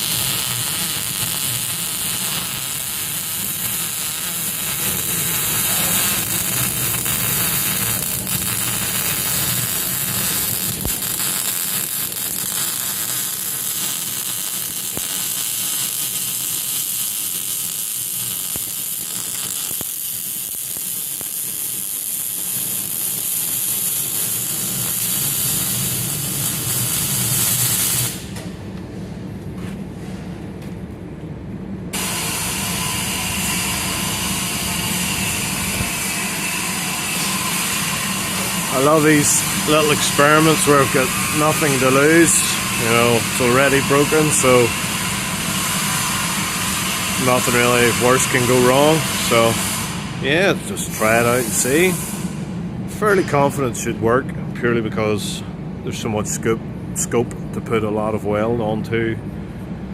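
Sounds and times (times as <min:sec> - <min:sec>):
arc welding crackle and hiss: 0:00.0 - 0:28.5, 0:31.9 - 0:53.9.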